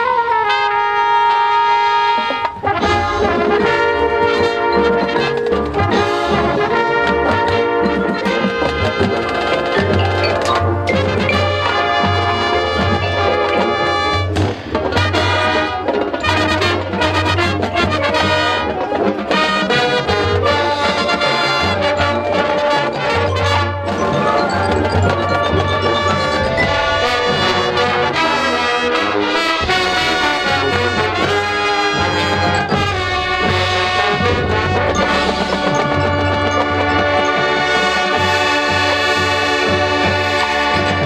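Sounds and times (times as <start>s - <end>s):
marching band brass: 0.0s - 41.0s
marching band percussion: 0.0s - 41.0s.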